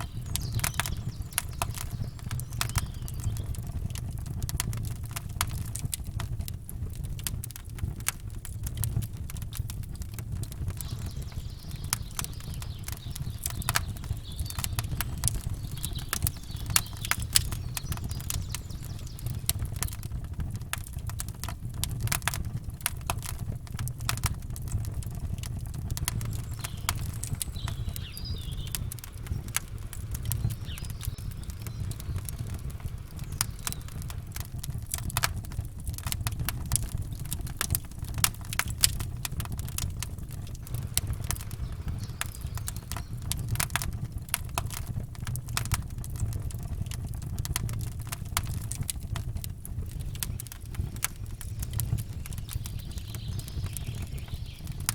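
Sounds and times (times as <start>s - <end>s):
fire low rumble: 0.0s - 54.9s
wood crackling and popping: 0.0s - 54.9s.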